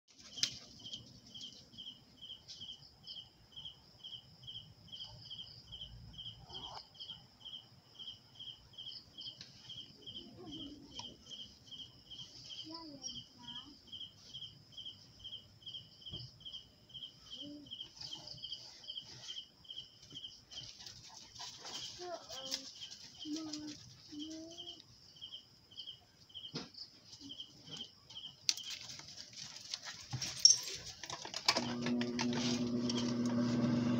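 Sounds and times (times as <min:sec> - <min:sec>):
faint high-pitched chirping: 0:00.1 - 0:31.0.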